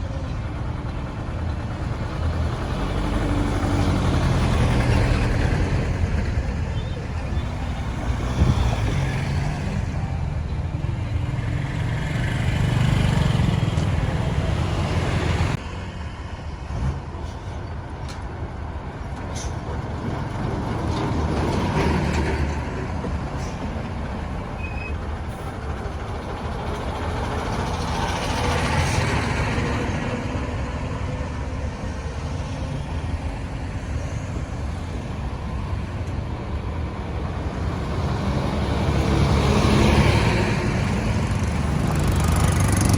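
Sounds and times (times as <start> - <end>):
passing vehicles: 0.0 - 42.9.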